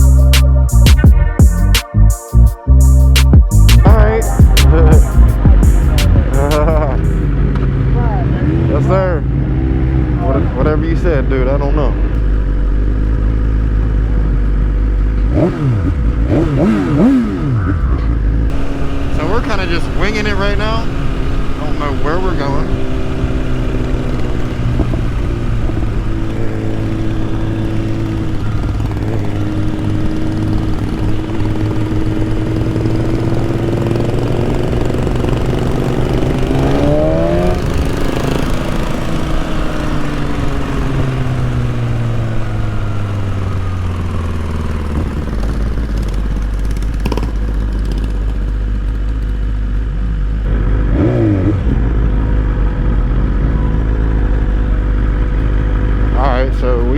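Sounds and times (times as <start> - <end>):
motorcycle engine revving: 3.3 - 56.9.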